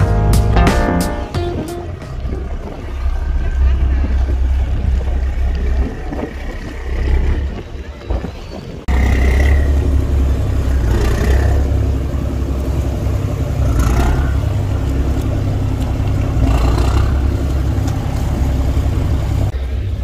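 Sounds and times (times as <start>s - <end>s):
ferry engines rumbling: 0.0s - 20.0s
propellers churning water: 0.0s - 20.0s.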